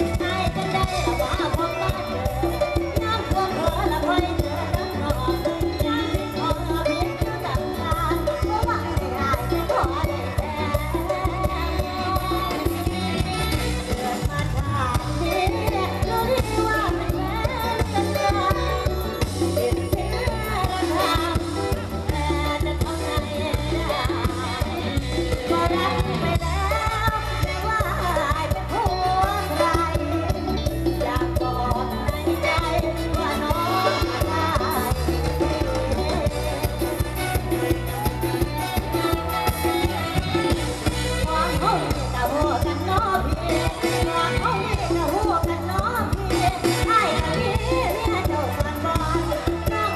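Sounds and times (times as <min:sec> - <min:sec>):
live band music: 0:00.0 - 0:49.9
woman singing: 0:00.0 - 0:49.9.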